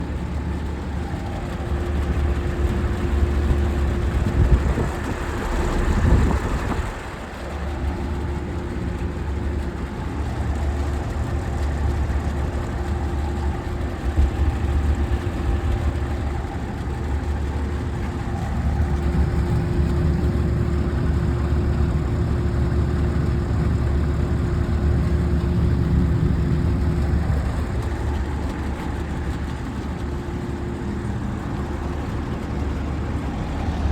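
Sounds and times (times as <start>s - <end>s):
air conditioner hum: 0.0s - 33.9s.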